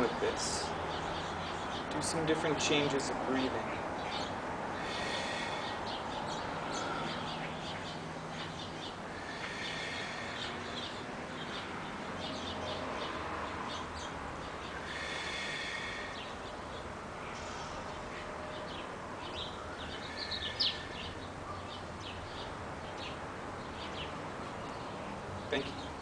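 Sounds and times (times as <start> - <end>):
outdoor background hiss: 0.0 - 26.0
small birds chirping: 0.0 - 26.0.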